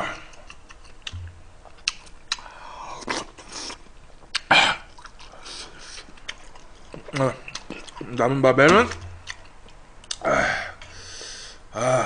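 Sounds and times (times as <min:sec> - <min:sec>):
slurping and chewing: 0:00.0 - 0:10.2.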